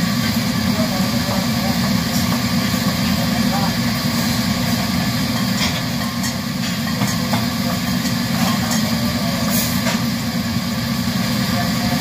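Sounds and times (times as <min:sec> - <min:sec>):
gas burner roaring: 0:00.0 - 0:12.0.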